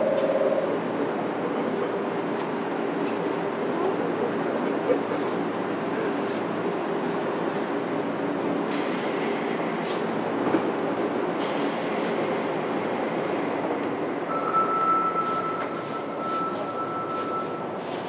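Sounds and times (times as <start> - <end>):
rumble of wheels on rail: 0.0 - 18.0.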